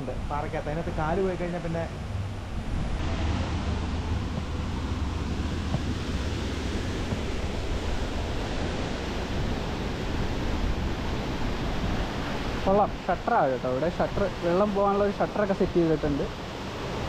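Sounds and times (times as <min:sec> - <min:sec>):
flowing river water: 0:00.0 - 0:17.0
wind rumble on microphone: 0:00.0 - 0:17.0.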